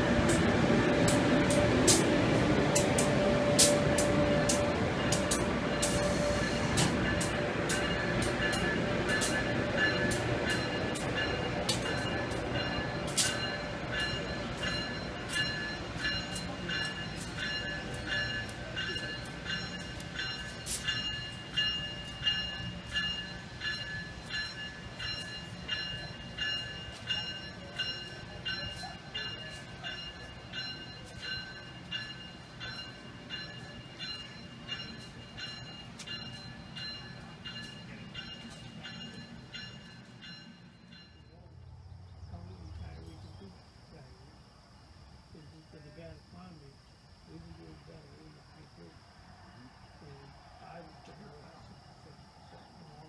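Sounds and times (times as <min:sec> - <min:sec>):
electric train pulling away: 0:00.0 - 0:43.5
steady high ringing: 0:00.0 - 0:44.0.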